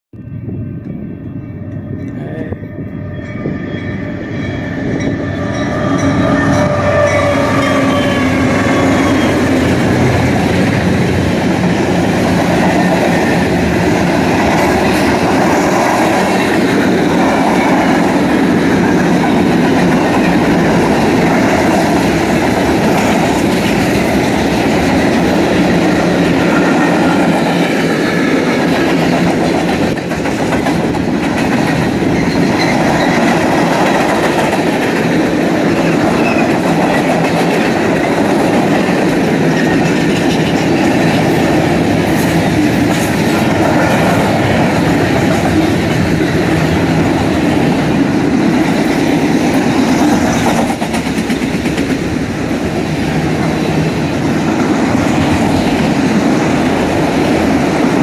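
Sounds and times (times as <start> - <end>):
diesel locomotives: 0.2 - 58.0
steel wheels rumbling on rails: 0.2 - 58.0.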